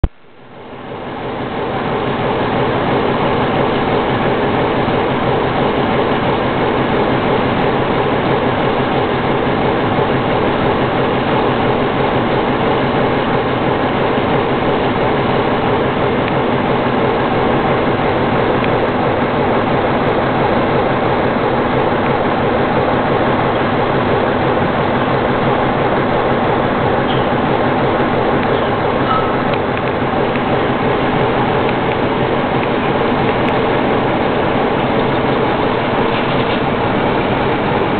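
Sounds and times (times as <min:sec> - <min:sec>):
locomotive diesel engine running: 0:00.4 - 0:37.9.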